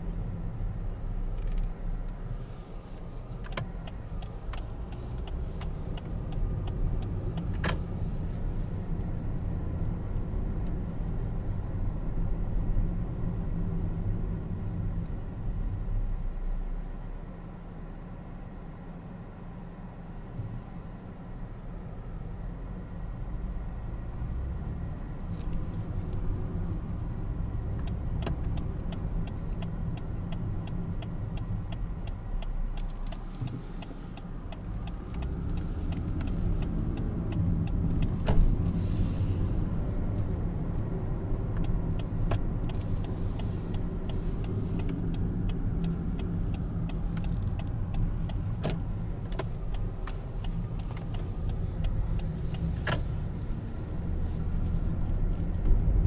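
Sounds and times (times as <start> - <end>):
car engine and tyre rumble: 0.0 - 56.0
turn signal ticking: 2.9 - 15.8, 22.0 - 56.0.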